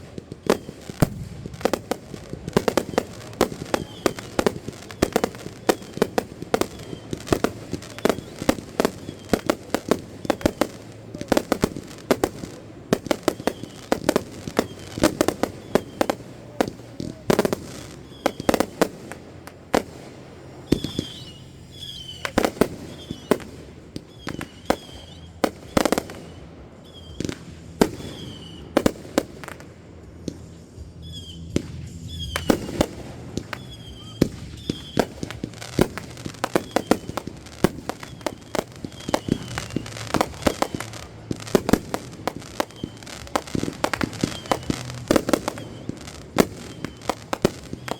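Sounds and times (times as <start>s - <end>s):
fireworks bangs and pops: 0.0s - 47.9s.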